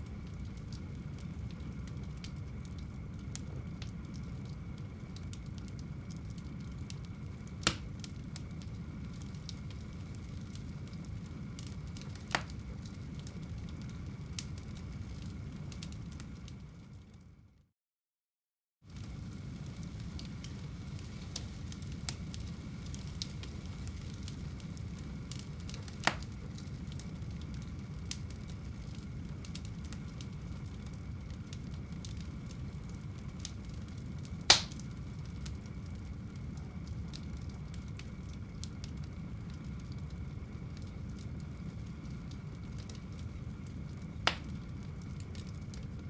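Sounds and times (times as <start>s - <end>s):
fire pops: 0.0s - 16.2s, 19.0s - 45.9s
fire crackling in a fireplace: 0.0s - 17.7s, 18.8s - 46.0s.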